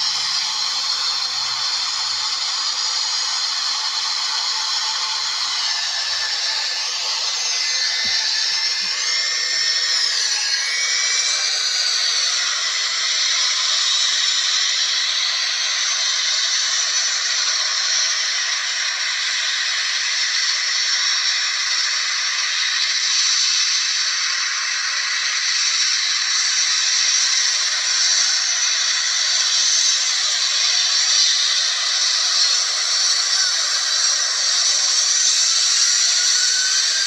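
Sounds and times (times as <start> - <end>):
jet engines at takeoff: 0.0 - 37.0.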